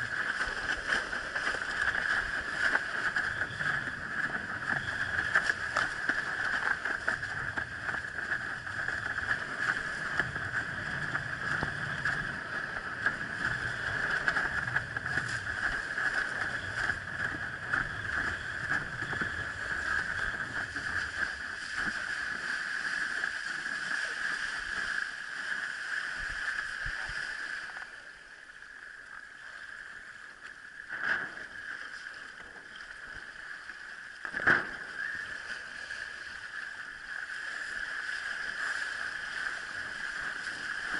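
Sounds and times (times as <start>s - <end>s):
rush of water and wind: 0.0s - 40.9s.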